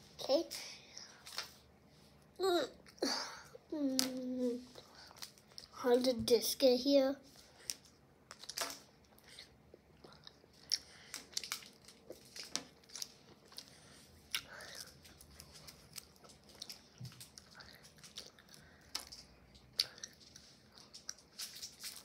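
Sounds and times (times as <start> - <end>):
child chewing candy: 2.8 - 5.8, 7.3 - 22.0.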